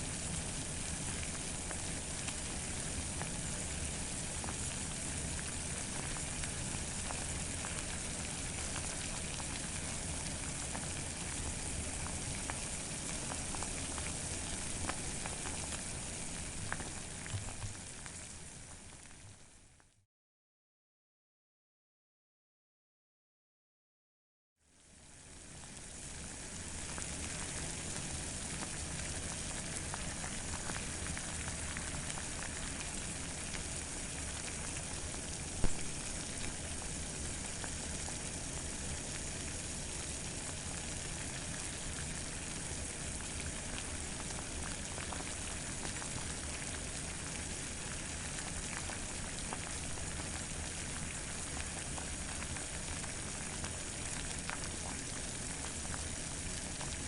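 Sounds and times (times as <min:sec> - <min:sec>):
water boiling: 0:00.0 - 0:20.0, 0:24.6 - 0:57.0.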